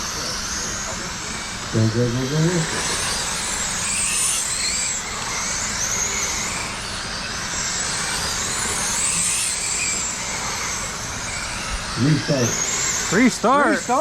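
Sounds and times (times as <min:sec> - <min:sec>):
rc truck motors whining: 0:00.0 - 0:14.0.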